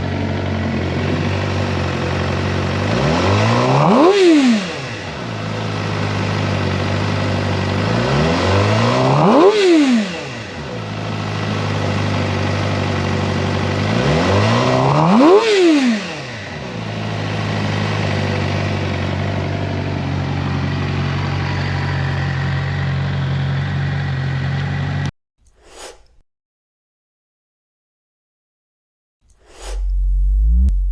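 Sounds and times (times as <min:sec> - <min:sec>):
motorcycle engine idling and revving: 0:00.0 - 0:25.1, 0:29.7 - 0:30.9.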